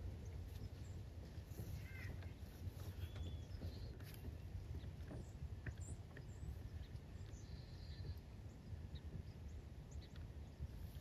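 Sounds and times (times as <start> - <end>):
faint ticks and rustles: 0.0 - 11.0
low steady rumble: 0.0 - 11.0.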